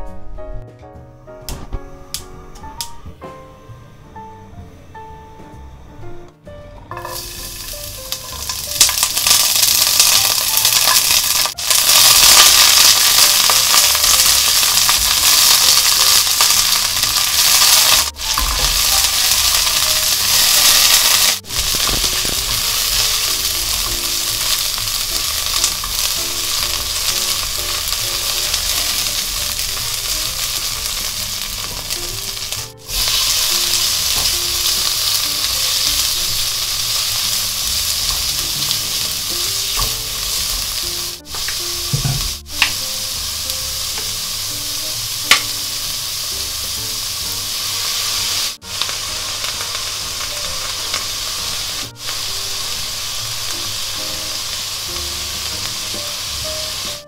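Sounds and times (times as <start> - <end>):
garlic sizzling in hot oil: 6.9 - 57.0.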